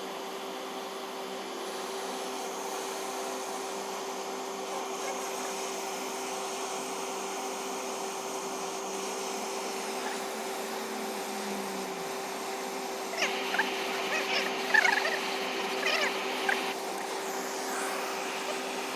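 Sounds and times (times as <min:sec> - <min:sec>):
steady motor hum: 0:00.0 - 0:18.9.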